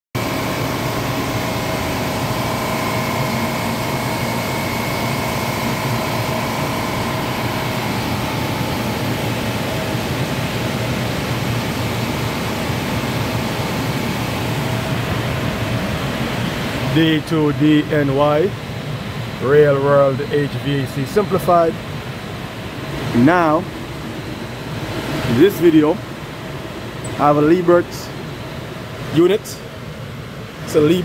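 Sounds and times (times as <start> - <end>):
air conditioner rushing hum: 0.2 - 31.0
faint steady whines: 0.2 - 31.0.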